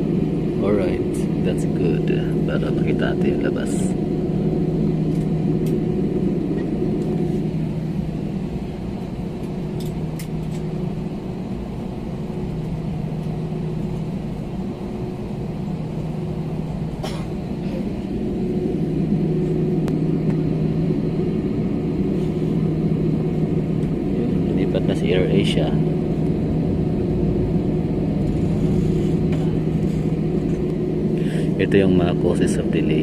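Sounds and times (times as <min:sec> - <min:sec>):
jet cabin drone: 0:00.0 - 0:33.0.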